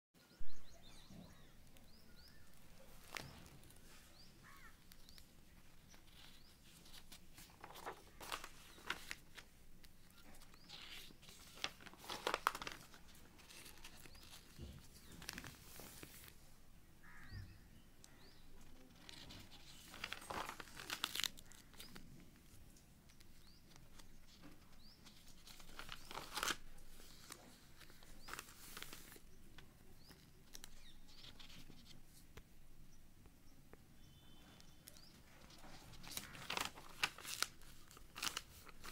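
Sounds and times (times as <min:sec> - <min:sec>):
paper pages rustling: 0:02.3 - 0:16.4, 0:18.6 - 0:32.2, 0:34.9 - 0:38.9.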